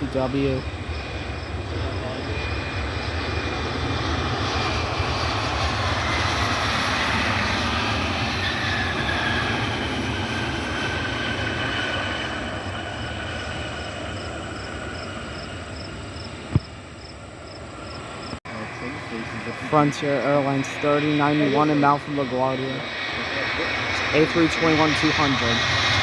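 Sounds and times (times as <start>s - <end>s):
jet passing overhead: 0.0s - 26.0s.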